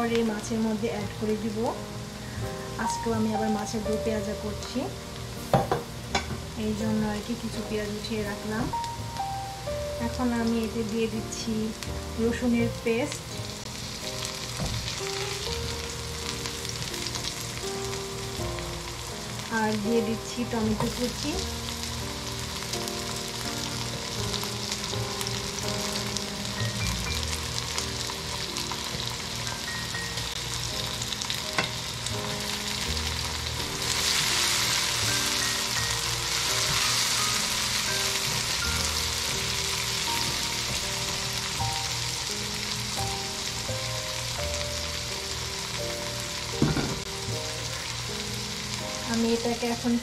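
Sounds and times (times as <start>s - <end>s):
food sizzling in a pan: 0.0s - 50.0s.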